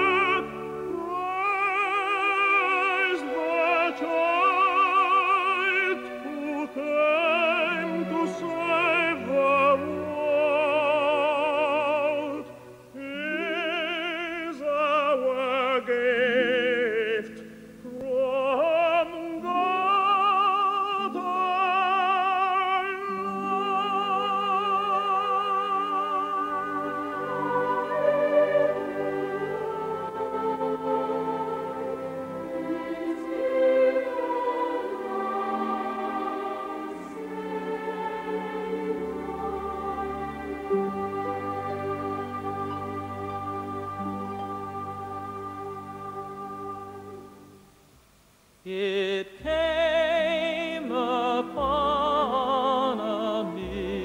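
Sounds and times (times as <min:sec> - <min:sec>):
operatic singing with vibrato: 0:00.0 - 0:47.9, 0:48.5 - 0:54.0.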